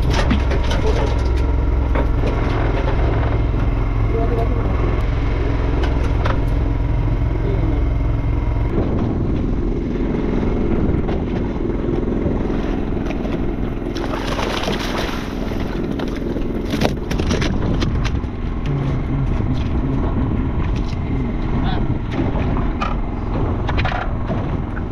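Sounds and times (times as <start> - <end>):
boat engine humming: 0.0 - 24.9.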